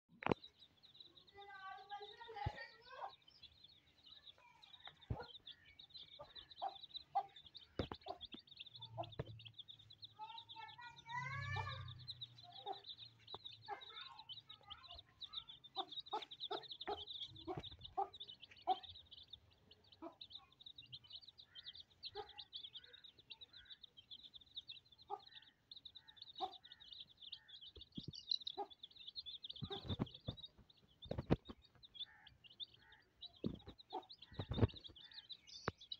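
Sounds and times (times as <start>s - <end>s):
chicks peeping: 0.1s - 35.9s
hen clucking: 4.4s - 9.6s, 10.2s - 23.9s, 24.5s - 35.8s.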